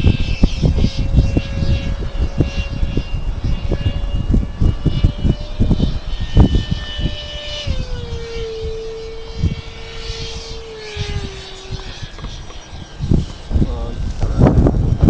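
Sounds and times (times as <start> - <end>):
electric fan jet whining: 0.0 - 15.0
wind buffeting microphone: 0.0 - 15.0.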